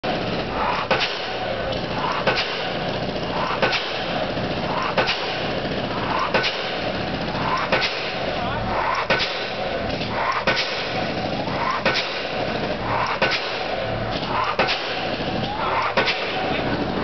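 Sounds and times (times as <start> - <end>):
piling rig running: 0.0 - 17.0
pile hammer blows: 0.1 - 16.7.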